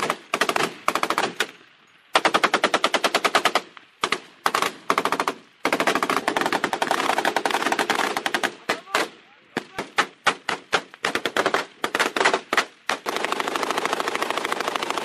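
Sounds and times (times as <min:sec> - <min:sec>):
automatic gunfire bursts: 0:00.0 - 0:01.5, 0:02.2 - 0:15.0.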